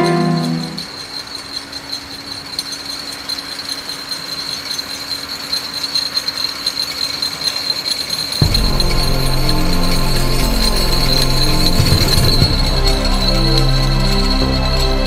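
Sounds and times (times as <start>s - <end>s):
high-pitched wheel ring: 0.0s - 15.0s
rail cart wheels rattling: 0.0s - 15.0s.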